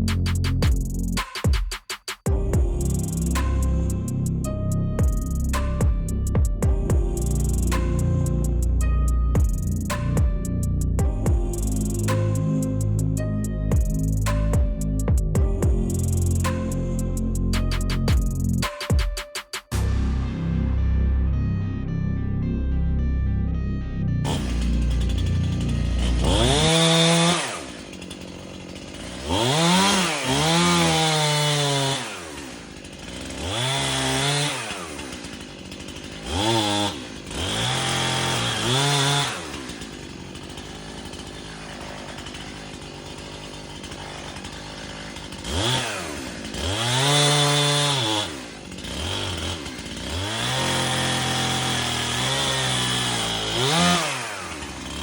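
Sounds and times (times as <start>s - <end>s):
chainsaw revving and idling: 0.0s - 1.4s, 2.3s - 18.7s, 24.3s - 55.0s.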